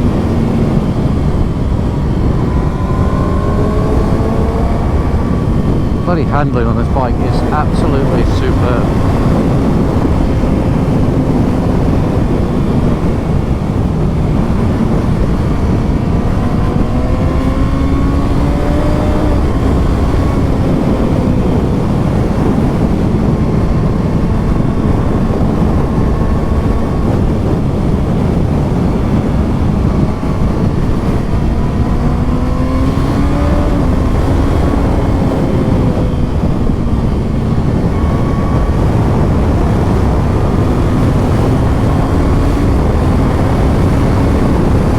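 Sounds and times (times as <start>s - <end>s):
motorcycle engine revving: 0.0s - 44.9s
wind and road rush: 0.0s - 44.9s.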